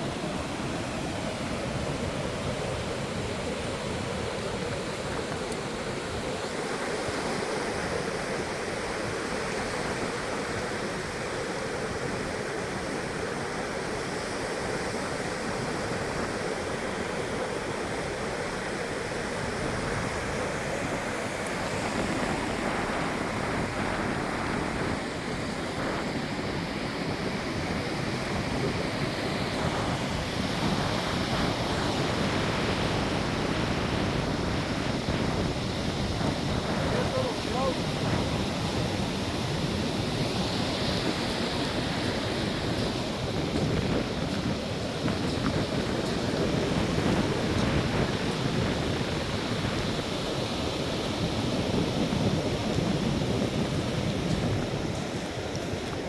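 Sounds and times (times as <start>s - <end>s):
surf: 0.0s - 56.0s
wind: 0.0s - 56.0s.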